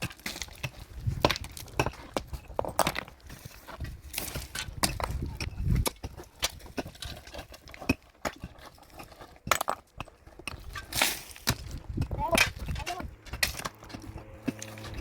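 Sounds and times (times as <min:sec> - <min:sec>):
hard objects knocking and clattering: 0:00.0 - 0:15.0.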